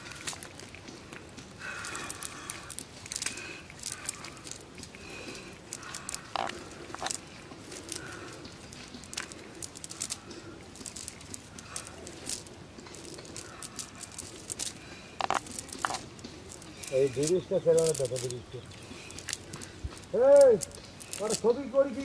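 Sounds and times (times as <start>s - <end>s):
cast net crackling and rustling: 0.0s - 22.0s.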